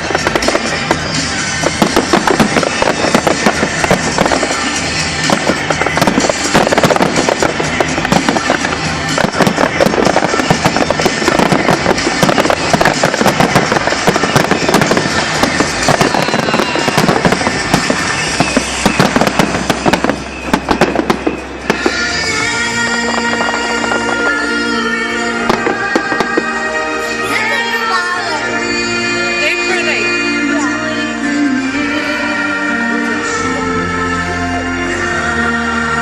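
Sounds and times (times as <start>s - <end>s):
fireworks crackling and banging: 0.0s - 36.0s
music: 0.0s - 36.0s.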